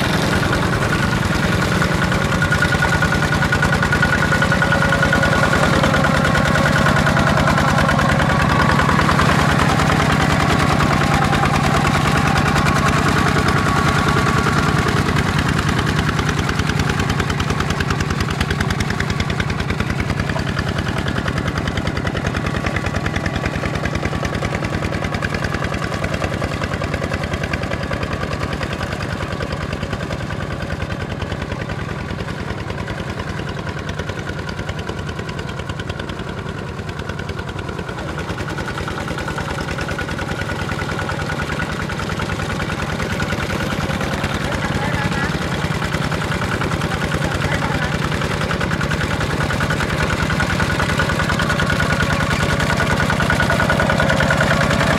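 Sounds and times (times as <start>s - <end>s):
diesel tractor engine chugging: 0.0s - 54.9s.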